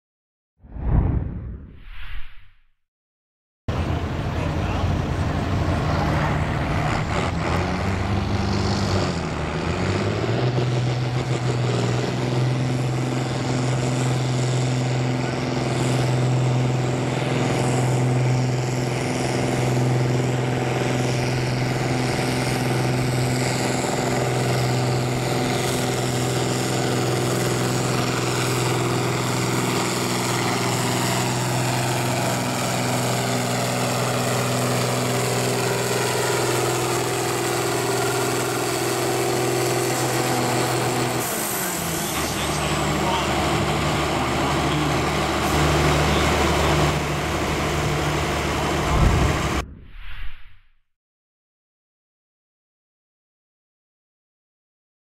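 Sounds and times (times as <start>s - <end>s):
tractor diesel engine at full throttle: 3.7s - 49.6s.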